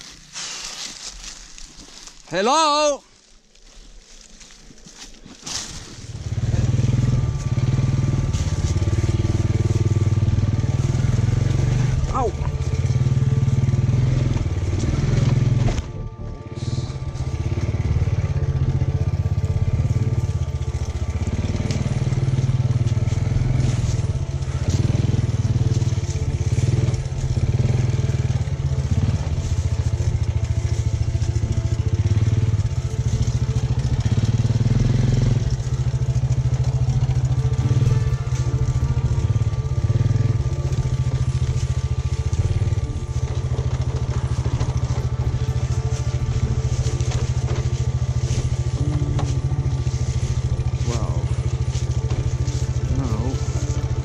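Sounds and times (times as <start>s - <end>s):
motorcycle engine running: 0.0s - 2.5s, 3.6s - 54.0s
tyres crunching over stones: 0.0s - 54.0s.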